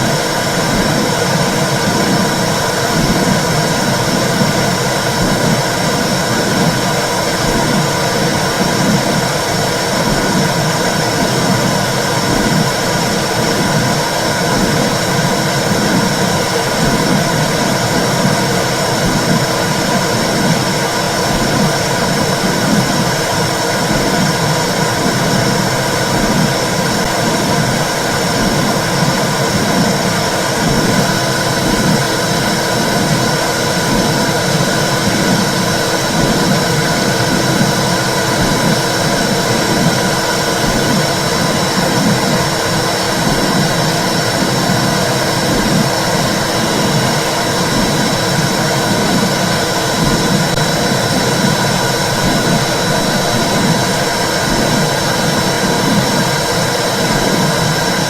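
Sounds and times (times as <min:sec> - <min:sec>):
low rushing womb noise: 0:00.0 - 0:58.0.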